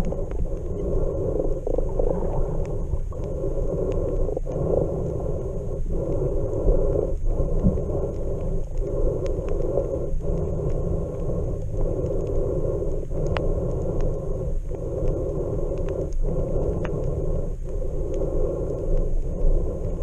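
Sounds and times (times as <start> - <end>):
faint ticks: 0.0 - 20.0
muffled underwater rumble: 0.0 - 20.0.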